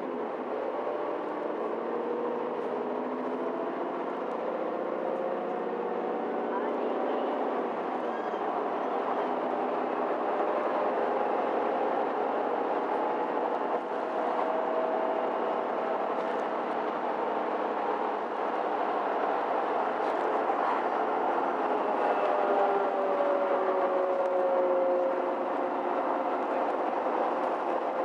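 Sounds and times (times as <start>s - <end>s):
bus engine hum and whine: 0.0s - 28.0s.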